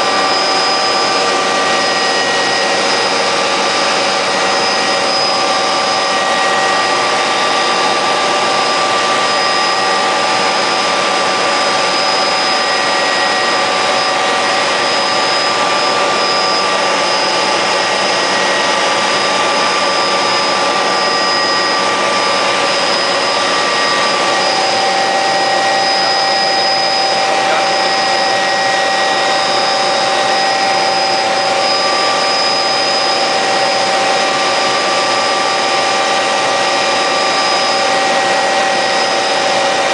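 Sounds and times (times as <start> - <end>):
helicopter rushing noise: 0.0 - 39.9
helicopter turbine whine: 0.0 - 39.9.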